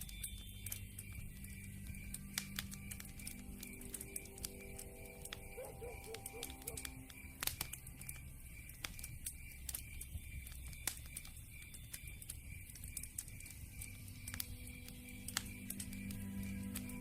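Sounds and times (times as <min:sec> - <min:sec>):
campfire crackling and popping: 0:00.0 - 0:17.0
faint repeating high chirp: 0:00.0 - 0:17.0.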